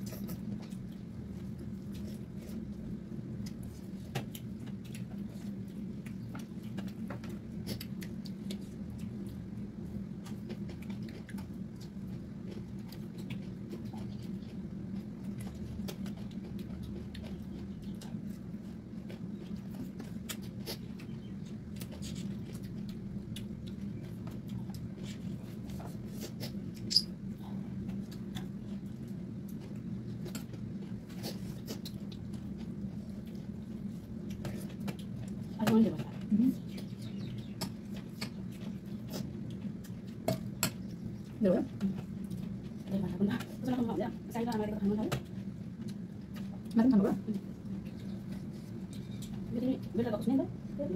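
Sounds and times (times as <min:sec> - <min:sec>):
people chewing: 0:00.0 - 0:50.3
low steady hum: 0:00.0 - 0:50.9.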